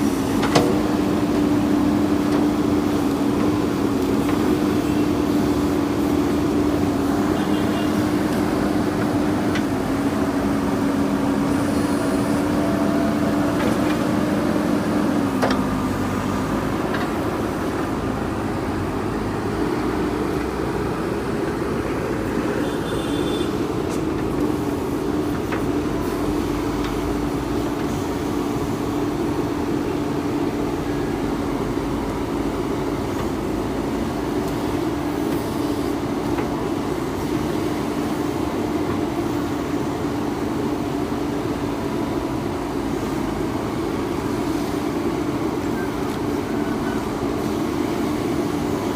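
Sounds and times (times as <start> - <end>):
backhoe diesel engine droning: 0.0 - 48.9.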